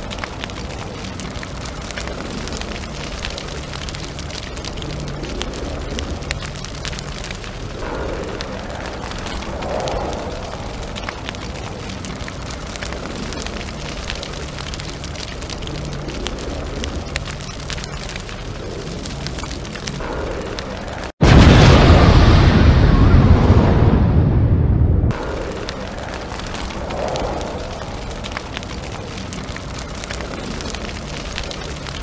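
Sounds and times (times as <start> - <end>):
crackling rumbling noise: 0.0 - 32.0
loud rumbling noise: 0.0 - 32.0.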